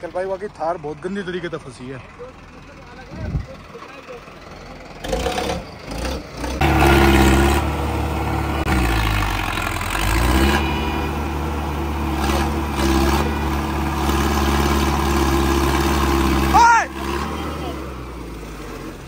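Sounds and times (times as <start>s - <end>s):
engine working hard under load: 0.0s - 19.0s.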